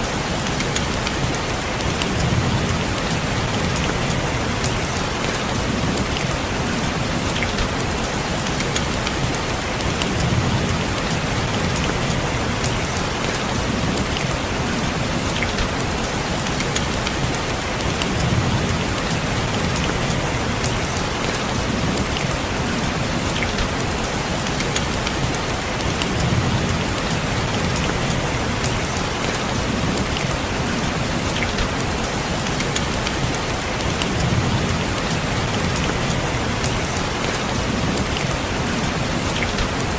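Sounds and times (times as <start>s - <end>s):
rain falling: 0.0s - 39.9s
raindrops ticking on glass: 0.1s - 39.9s.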